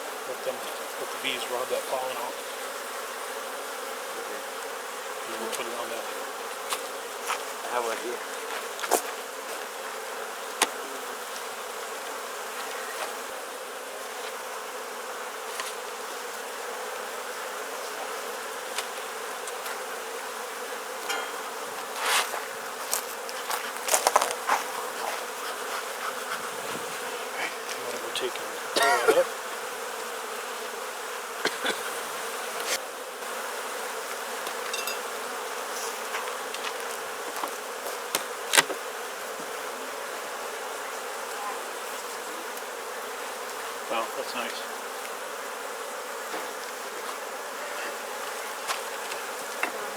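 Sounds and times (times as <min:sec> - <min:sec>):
bees buzzing: 0:00.0 - 0:49.9
bees flying past: 0:00.0 - 0:49.9.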